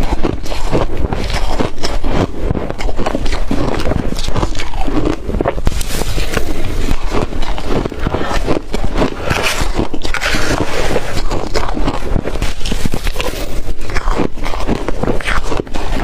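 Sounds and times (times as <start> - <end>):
crunching ice in mouth: 0.0 - 16.0.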